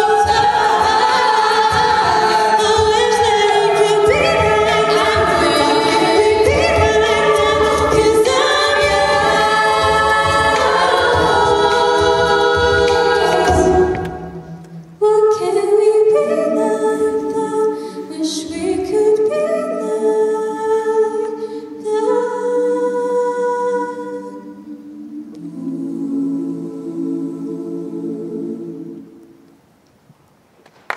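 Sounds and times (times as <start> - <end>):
women singing a cappella chords: 0.0 - 29.5.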